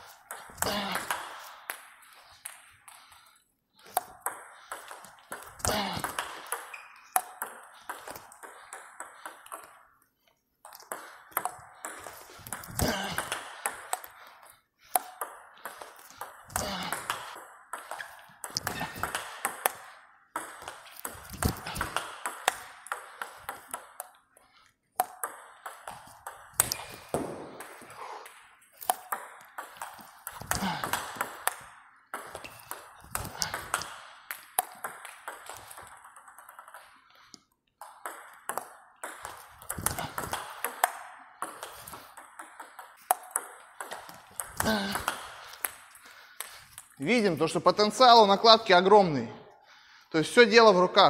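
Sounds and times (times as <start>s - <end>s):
table tennis ball clicking off paddles: 3.9s - 9.8s, 10.6s - 24.3s, 25.0s - 47.0s.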